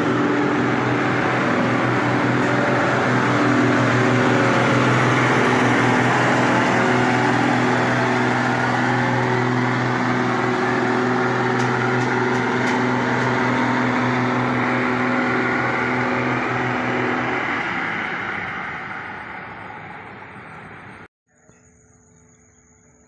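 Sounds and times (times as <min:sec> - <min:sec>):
diesel train engine drone: 0:00.0 - 0:21.1
wheel and rail rumble: 0:00.0 - 0:21.1.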